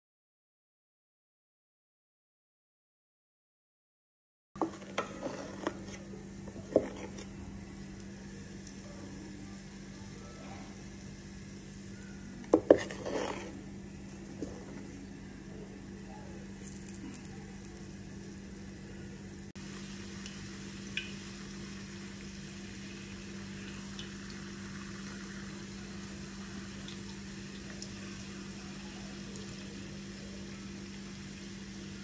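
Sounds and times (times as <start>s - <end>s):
batter deep-frying in oil: 4.6s - 32.0s.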